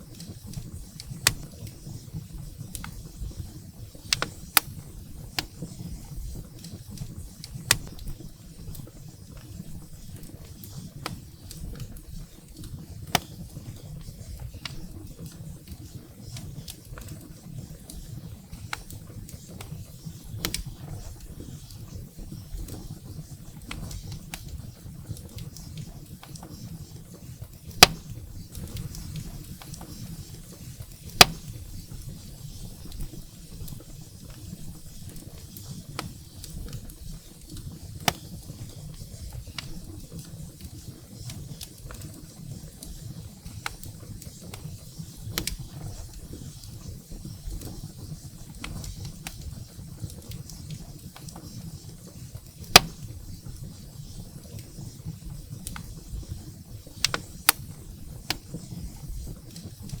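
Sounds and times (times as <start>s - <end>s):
fire rumbling in fireplace: 0.0s - 60.0s
firewood crackling and popping: 0.0s - 60.0s.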